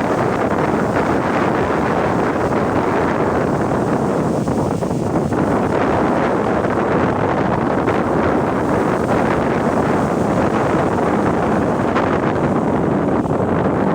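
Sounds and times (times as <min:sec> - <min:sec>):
surf rushing: 0:00.0 - 0:13.9
wind on microphone: 0:00.0 - 0:13.9.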